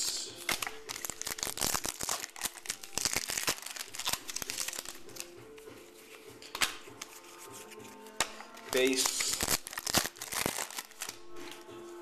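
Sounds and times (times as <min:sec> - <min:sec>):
wrapper crinkling: 0:00.2 - 0:05.3, 0:06.8 - 0:11.8.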